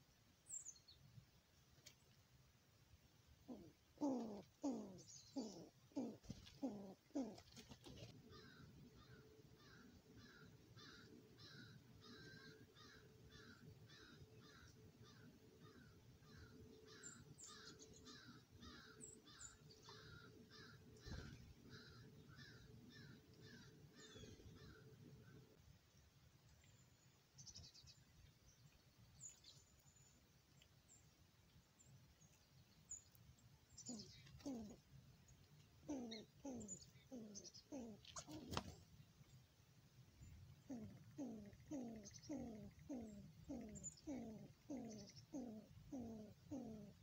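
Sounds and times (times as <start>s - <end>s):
faint bird chirps: 0.0s - 1.1s, 3.4s - 39.4s, 40.2s - 47.0s.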